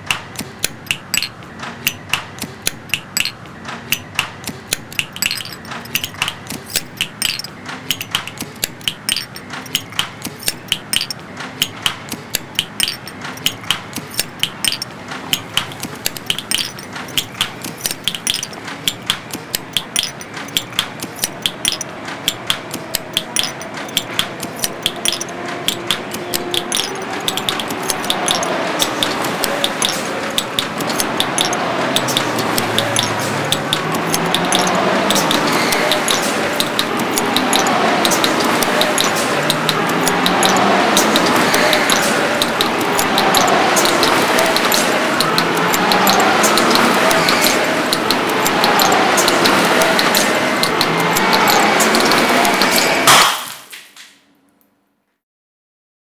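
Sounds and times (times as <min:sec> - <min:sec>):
held tones: 0:00.0 - 0:53.2
rhythmic sharp knocks: 0:00.0 - 0:53.8.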